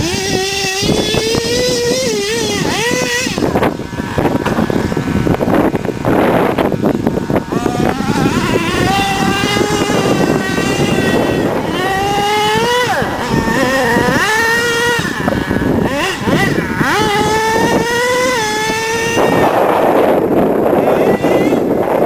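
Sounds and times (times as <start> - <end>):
small engine high-pitched buzz revving: 0.0 - 22.0.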